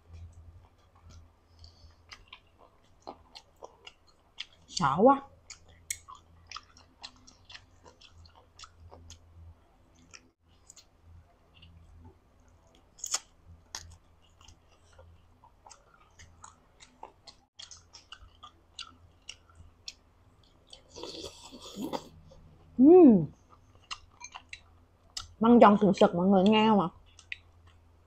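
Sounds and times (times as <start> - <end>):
mouth chewing food: 0.0 - 9.3, 11.5 - 22.7, 23.3 - 26.1, 26.9 - 27.9.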